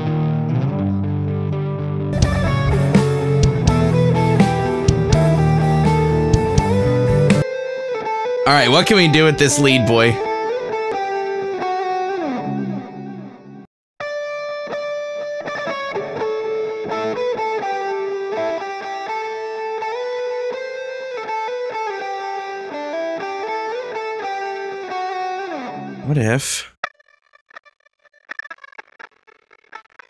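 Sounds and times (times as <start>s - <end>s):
electric lead guitar melody: 0.0s - 25.7s.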